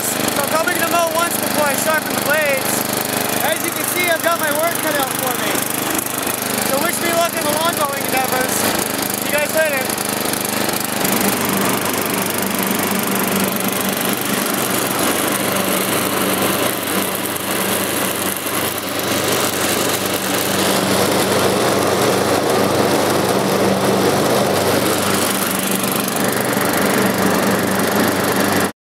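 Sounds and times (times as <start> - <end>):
riding lawn mower engine: 0.0 - 28.7.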